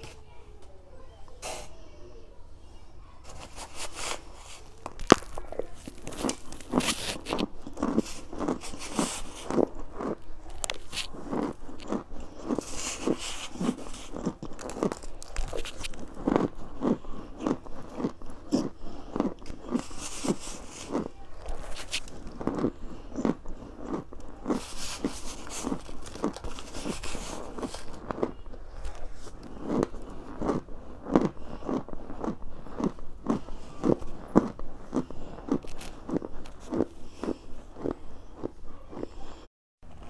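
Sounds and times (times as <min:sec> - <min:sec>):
crunchy food being chewed: 0:03.2 - 0:40.0.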